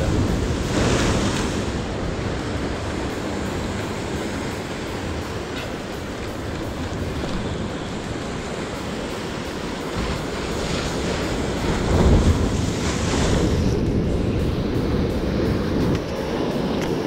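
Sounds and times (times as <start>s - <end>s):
sea surf breaking on rocks: 0.0s - 17.0s.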